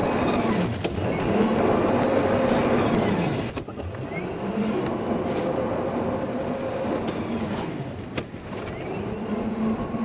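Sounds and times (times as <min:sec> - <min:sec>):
golf cart running hum: 0:00.0 - 0:10.0
road and wind noise: 0:00.0 - 0:10.0.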